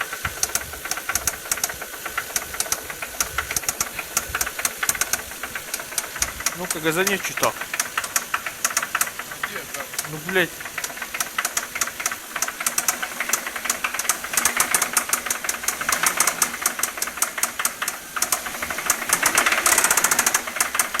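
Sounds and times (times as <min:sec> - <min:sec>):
engine running with knock: 0:00.0 - 0:21.0.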